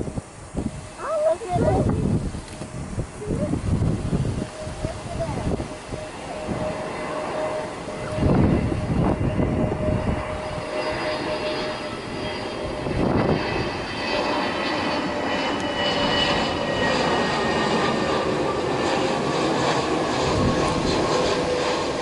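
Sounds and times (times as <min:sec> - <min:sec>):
jet engines whining and rumbling: 0:00.0 - 0:22.0
wind buffeting microphone: 0:00.0 - 0:22.0.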